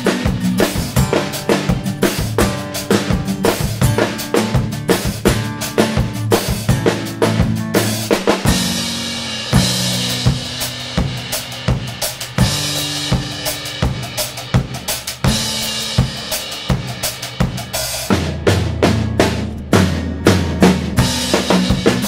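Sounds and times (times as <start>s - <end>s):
acoustic drum kit groove: 0.0s - 22.0s.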